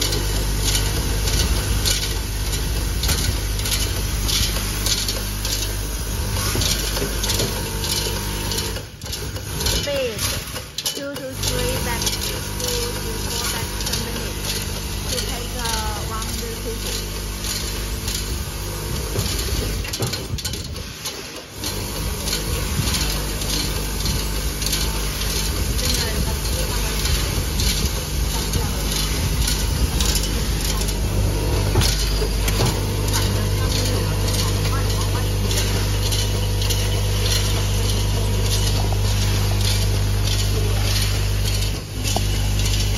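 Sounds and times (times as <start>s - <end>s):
machine clicks and clatters: 0.0s - 42.9s
machine mechanical hum: 0.0s - 42.9s.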